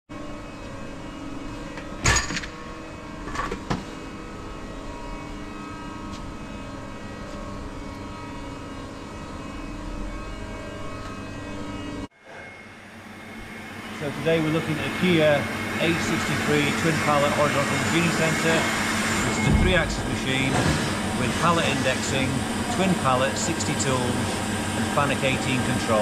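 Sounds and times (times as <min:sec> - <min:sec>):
factory machinery hum: 0:00.1 - 0:26.0.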